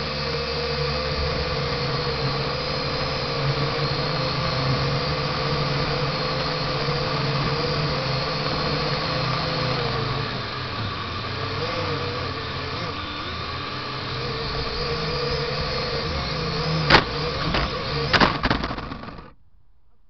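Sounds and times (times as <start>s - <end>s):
drone motors whining: 0.0s - 19.4s.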